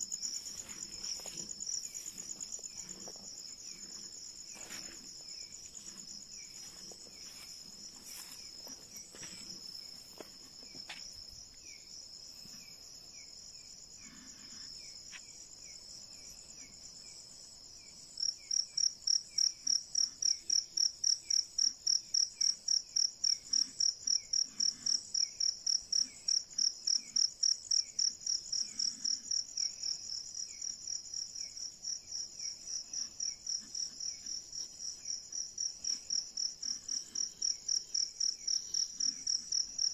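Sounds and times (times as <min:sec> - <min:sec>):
crickets trilling: 0:00.0 - 0:39.9
soft repeating insect chirp: 0:00.0 - 0:39.9.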